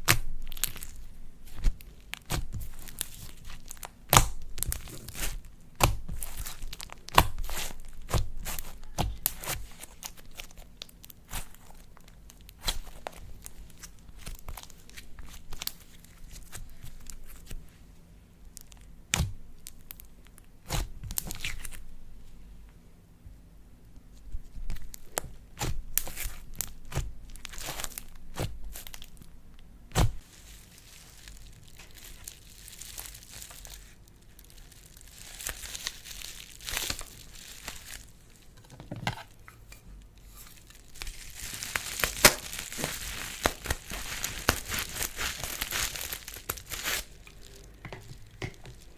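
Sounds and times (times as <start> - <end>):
slime crackling and popping: 0.0 - 17.6, 18.5 - 21.8, 24.4 - 29.3, 29.9 - 38.1, 40.6 - 48.9.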